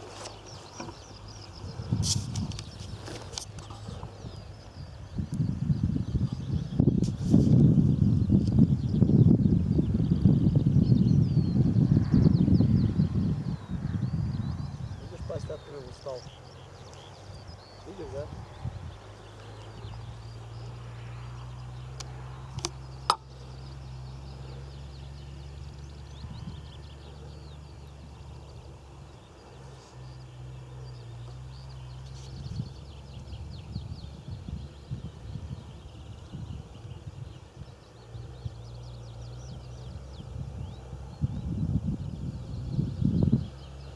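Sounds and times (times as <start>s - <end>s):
low steady rumble: 0.3s - 43.9s.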